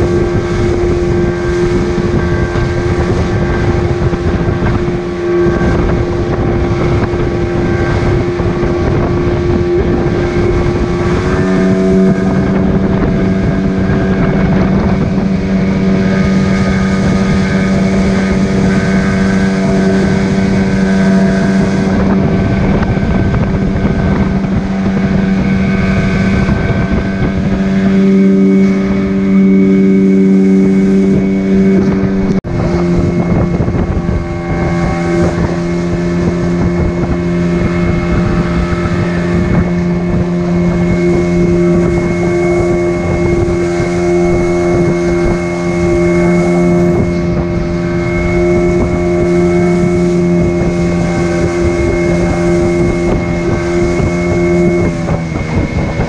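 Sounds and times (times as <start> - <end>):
boat engine running: 0.0 - 56.0
rush of wind and water: 0.0 - 56.0.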